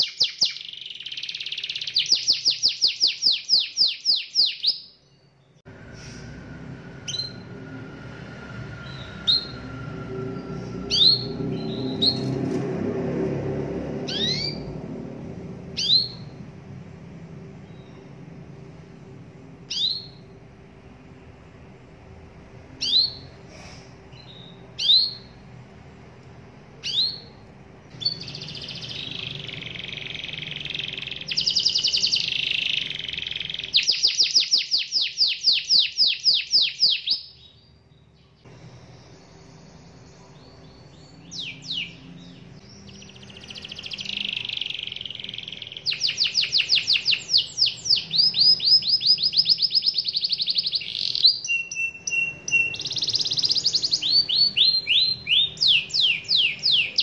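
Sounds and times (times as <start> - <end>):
canary singing: 0.0 - 5.6, 6.6 - 12.6, 14.0 - 18.4, 19.6 - 21.4, 22.0 - 23.4, 24.0 - 25.9, 26.6 - 57.0
canary chirps: 0.0 - 6.3, 7.0 - 7.8, 8.4 - 13.0, 13.9 - 57.0.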